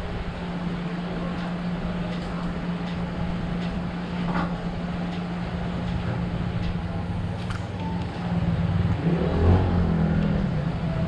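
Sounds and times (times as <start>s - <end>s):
low mechanical hum: 0.0s - 11.0s
street background noise: 0.0s - 11.0s.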